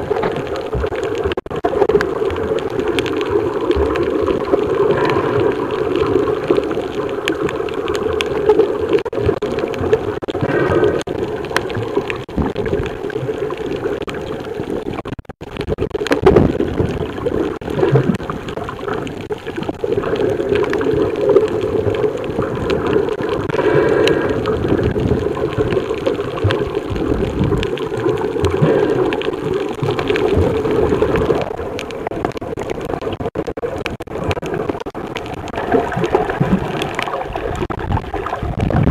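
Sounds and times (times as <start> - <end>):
muffled underwater gurgling rush: 0.0 - 38.9.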